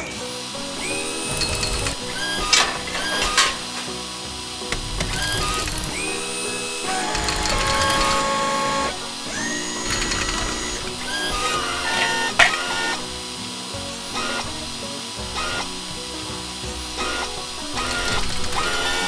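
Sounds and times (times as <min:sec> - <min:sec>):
background music: 0:00.0 - 0:19.0
whirring clicking tool effects: 0:00.0 - 0:19.0.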